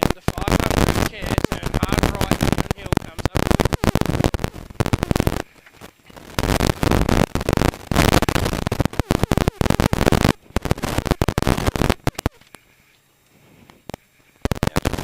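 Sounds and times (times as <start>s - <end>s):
sharp clicks: 0.0s - 12.6s.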